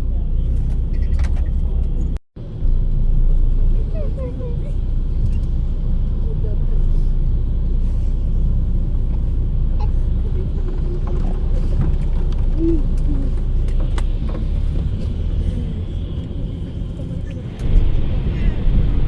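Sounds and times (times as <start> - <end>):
coach engine and road rumble: 0.0 - 19.0.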